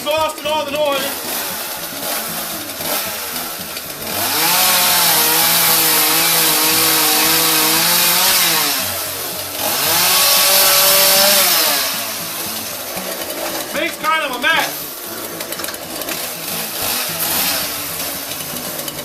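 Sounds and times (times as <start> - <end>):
chainsaw cutting tree trunk: 0.0 - 19.0.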